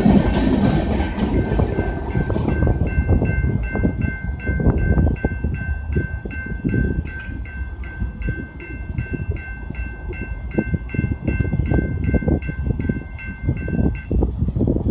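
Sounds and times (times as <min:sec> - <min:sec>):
train rumble: 0:00.0 - 0:14.9
electronic crossing bell ringing: 0:01.3 - 0:14.2.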